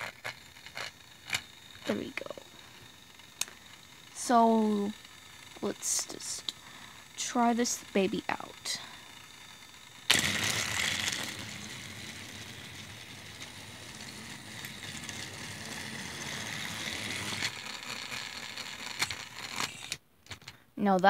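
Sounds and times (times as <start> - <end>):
toy train motor running: 0.0 - 20.6.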